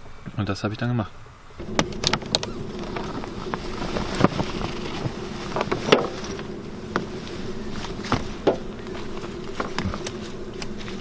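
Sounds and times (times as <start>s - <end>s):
low buzzing hum: 1.1s - 11.0s.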